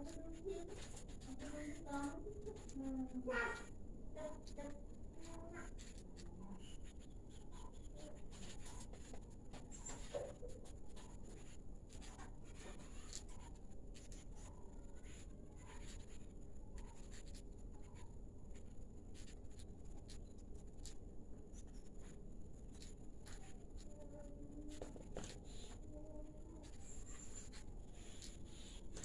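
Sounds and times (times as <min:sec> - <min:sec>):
birds pecking and scratching: 0:00.0 - 0:29.0.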